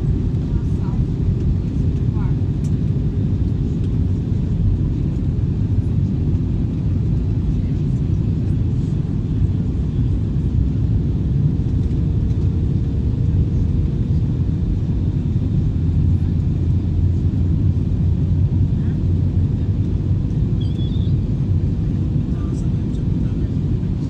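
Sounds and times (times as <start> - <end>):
airplane engine and airflow rumble: 0.0 - 24.0.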